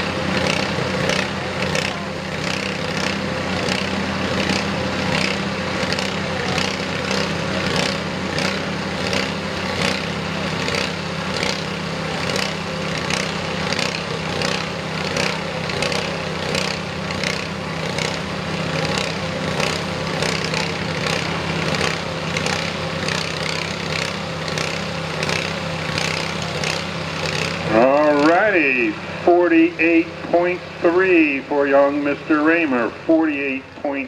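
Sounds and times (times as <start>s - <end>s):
small tractor engine idling: 0.0s - 34.0s.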